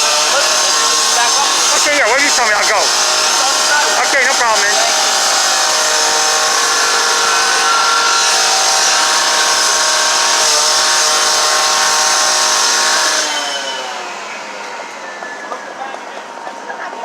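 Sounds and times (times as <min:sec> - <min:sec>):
motor whining at high speed: 0:00.0 - 0:17.0.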